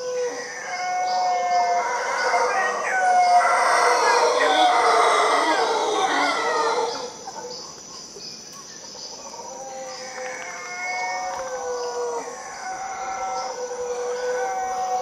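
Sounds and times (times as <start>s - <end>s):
howler monkeys roaring: 0.0s - 7.9s, 9.2s - 15.0s.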